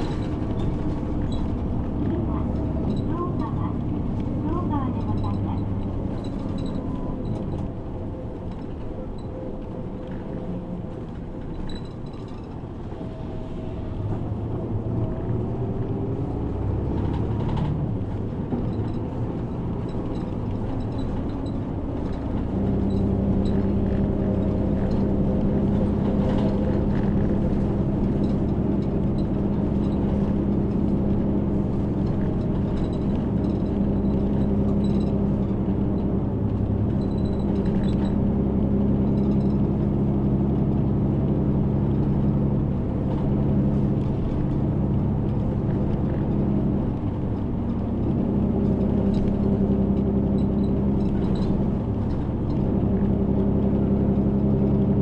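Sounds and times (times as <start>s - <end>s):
bus engine droning: 0.0s - 55.0s
road noise: 0.0s - 55.0s.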